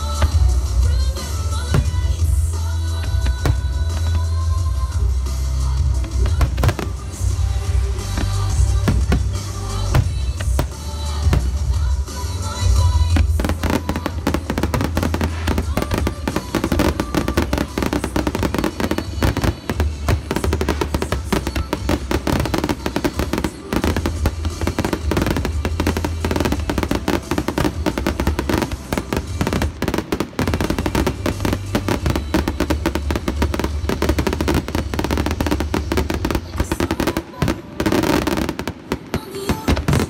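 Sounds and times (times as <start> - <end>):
fireworks bursting and crackling: 0.0 - 40.0.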